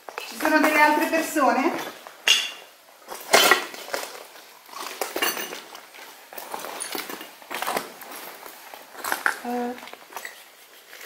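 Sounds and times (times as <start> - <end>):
footsteps crunching over rubble: 0.0 - 10.8
debris clinking: 0.3 - 4.2, 4.9 - 10.4.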